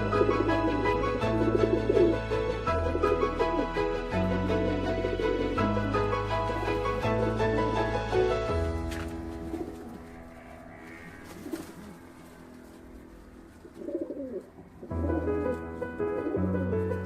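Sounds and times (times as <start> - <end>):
pigeons cooing: 0.0 - 8.0, 8.7 - 17.0
background music: 0.0 - 17.0.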